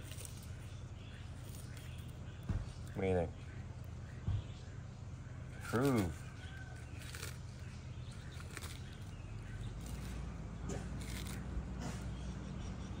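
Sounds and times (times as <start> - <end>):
tortoise crunching leaves: 0.0 - 4.1, 5.4 - 12.2.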